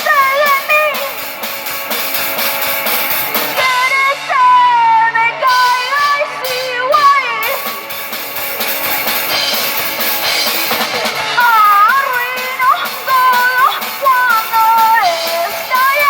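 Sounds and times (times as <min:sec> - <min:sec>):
drum hits: 0:00.0 - 0:04.4, 0:05.3 - 0:16.0
rock band playing live: 0:00.0 - 0:16.0.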